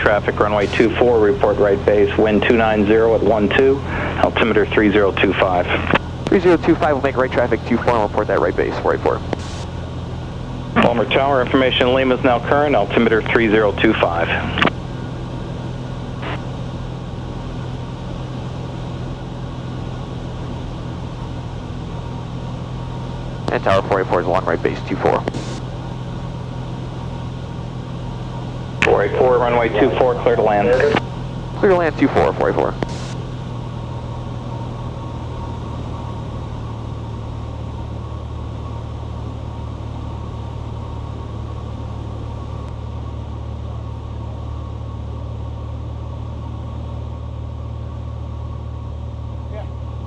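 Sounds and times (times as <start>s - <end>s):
airplane propeller engine droning: 0.0s - 50.0s.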